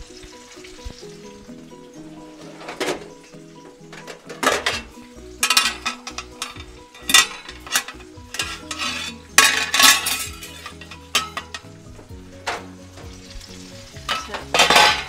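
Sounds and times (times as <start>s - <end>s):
oil crackling spatters: 0.0s - 15.0s
oil sizzling in pan: 0.0s - 15.0s.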